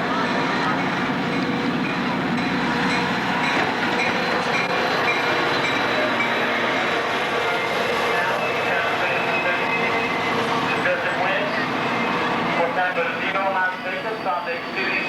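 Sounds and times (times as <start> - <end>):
train rolling by: 0.0 - 15.0
high wheel squeals: 2.4 - 15.0.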